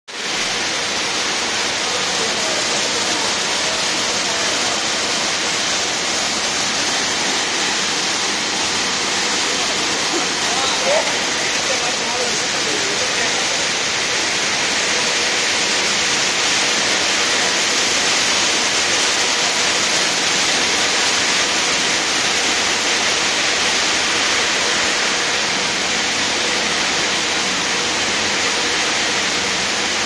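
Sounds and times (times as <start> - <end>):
machine hissing: 0.1 - 30.0.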